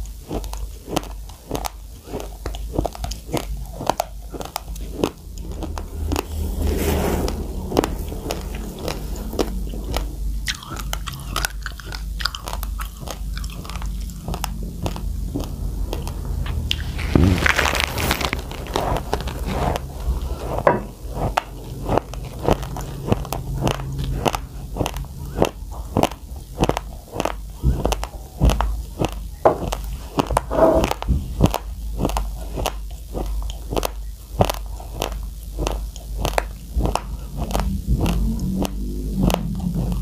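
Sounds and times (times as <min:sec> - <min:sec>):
chewing crunchy rice grains: 0:00.0 - 0:40.0.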